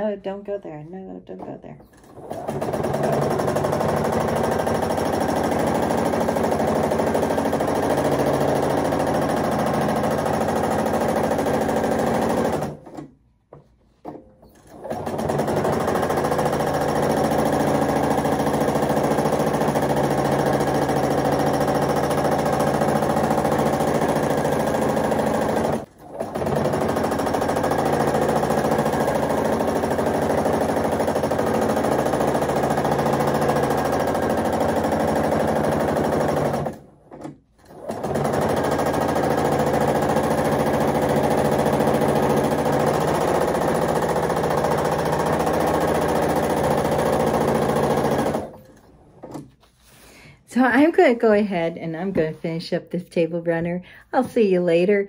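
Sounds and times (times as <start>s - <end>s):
sewing machine stitching: 1.8s - 13.2s, 14.0s - 49.8s.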